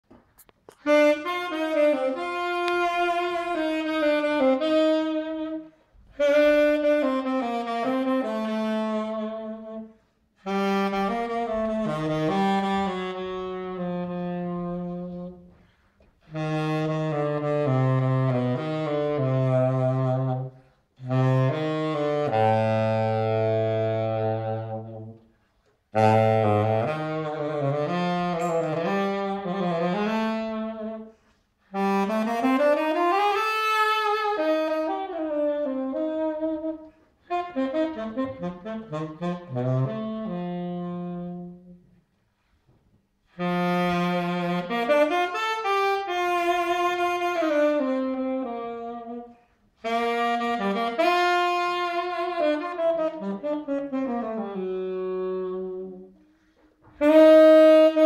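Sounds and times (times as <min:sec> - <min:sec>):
tenor saxophone melody: 0:00.4 - 0:58.0.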